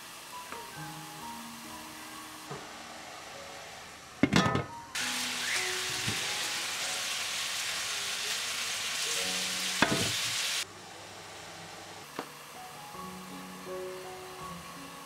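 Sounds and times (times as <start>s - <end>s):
steamer pot hissing: 0.0s - 12.0s, 12.6s - 15.0s.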